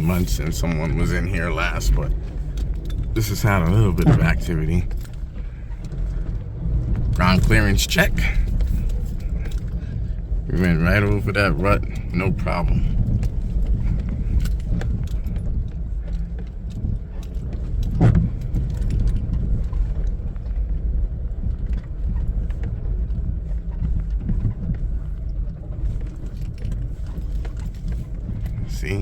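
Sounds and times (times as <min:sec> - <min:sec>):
engine and tyre rumble: 0:00.0 - 0:29.0
small rattles and clicks: 0:00.0 - 0:29.0.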